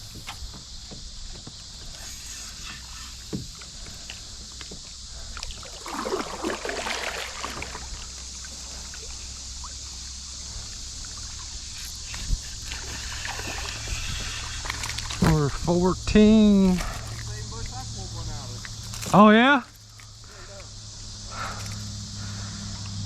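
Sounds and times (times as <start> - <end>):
water splashing beside kayak: 0.0 - 19.2
steady hiss: 0.0 - 23.0.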